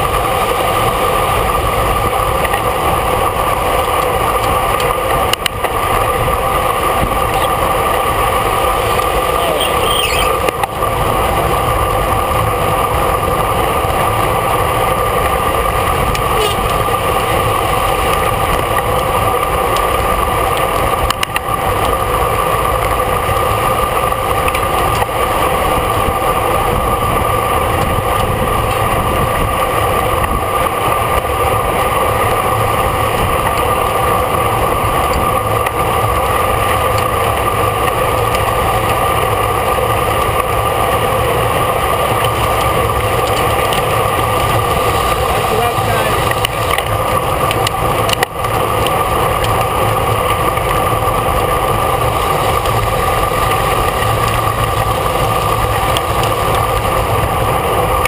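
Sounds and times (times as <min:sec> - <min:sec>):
bicycle road noise: 0:00.0 - 0:58.0
wind rush: 0:00.0 - 0:58.0.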